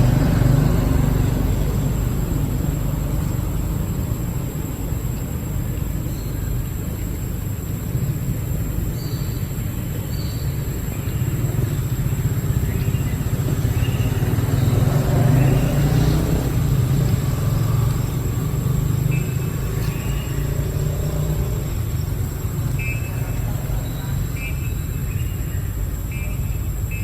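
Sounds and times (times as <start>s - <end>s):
passing motor vehicle rumble: 0.0s - 27.0s.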